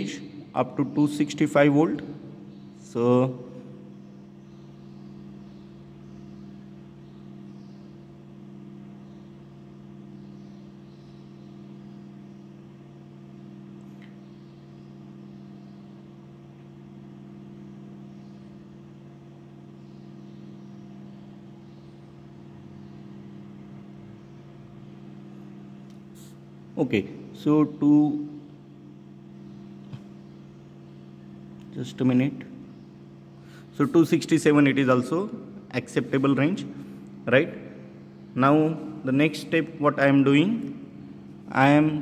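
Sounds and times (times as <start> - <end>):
low electrical hum: 0.0 - 42.0.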